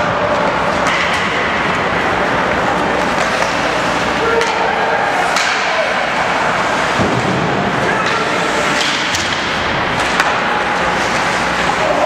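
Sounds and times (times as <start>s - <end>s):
hockey sticks and puck knocking: 0.0s - 1.9s, 2.5s - 12.0s
din of spectators' voices: 0.0s - 12.0s.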